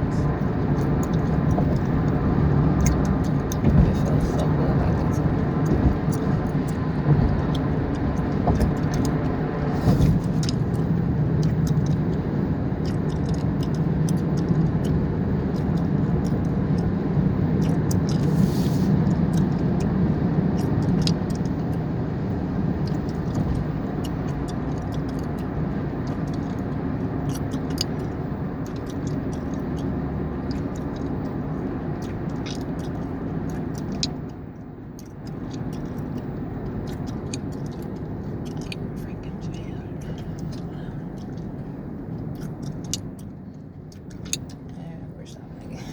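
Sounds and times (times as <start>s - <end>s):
car cabin rumble: 0.0s - 45.9s
gum chewing clicks: 0.1s - 9.4s, 10.1s - 44.9s.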